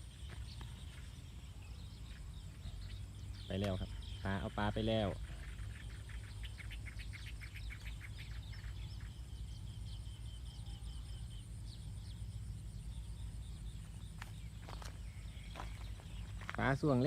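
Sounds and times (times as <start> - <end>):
bird chirping: 0.0 - 17.0
high insect drone: 0.0 - 17.0.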